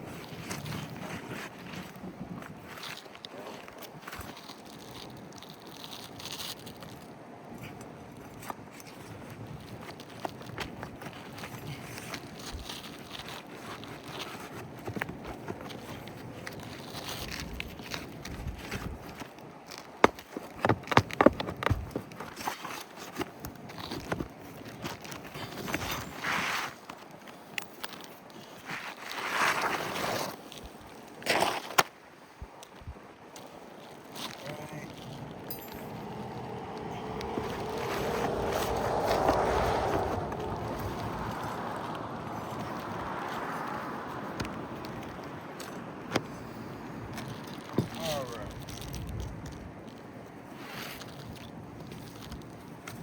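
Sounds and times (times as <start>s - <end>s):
scraping and rustling on shingles: 0.0s - 53.0s.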